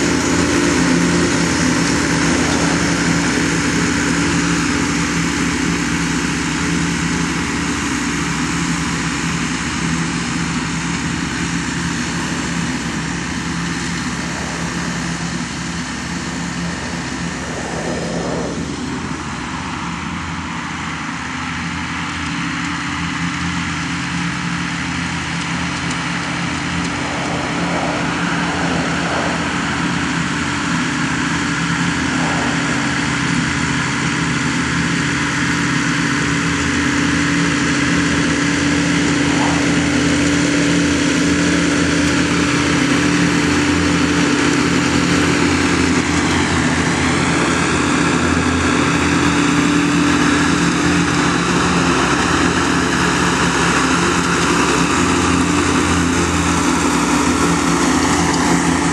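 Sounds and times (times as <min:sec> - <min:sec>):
high whine: 0:00.0 - 0:58.9
mower engine running: 0:00.0 - 0:58.9.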